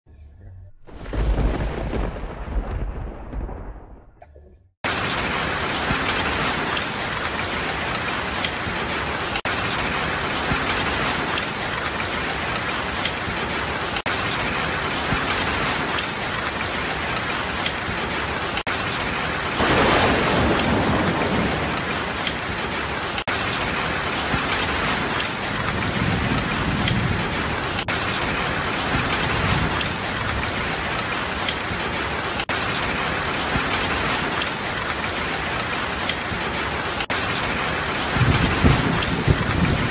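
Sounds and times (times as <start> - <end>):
low thunder rumbling: 0.8 - 4.2, 4.9 - 39.9
heavy rain on asphalt and cars: 1.3 - 3.6, 4.8 - 39.9.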